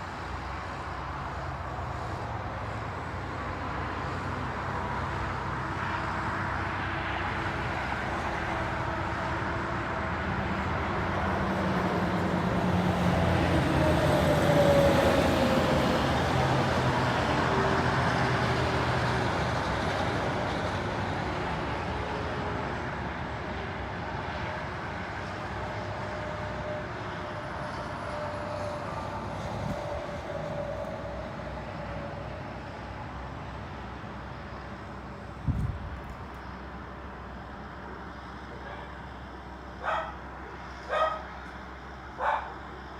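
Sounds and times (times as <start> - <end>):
vehicle engine and road noise: 0.0 - 42.9.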